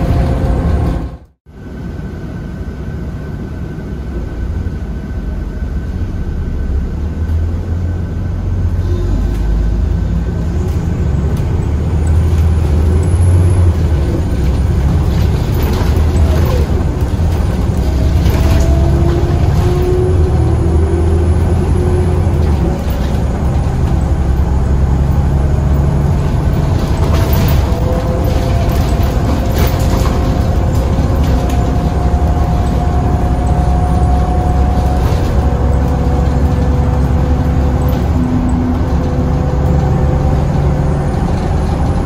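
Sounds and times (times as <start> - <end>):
bus engine rumble: 0.0 - 42.0
road noise: 0.0 - 42.0.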